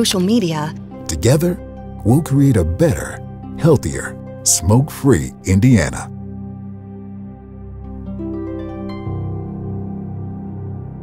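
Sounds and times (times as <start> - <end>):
soft ambient chord: 0.0 - 11.0.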